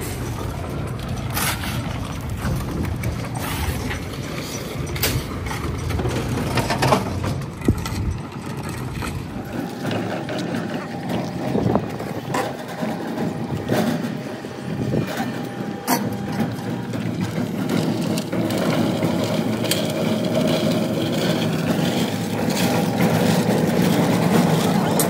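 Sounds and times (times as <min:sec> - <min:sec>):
concrete mixer running: 0:00.0 - 0:25.0
concrete pouring out: 0:00.0 - 0:25.0.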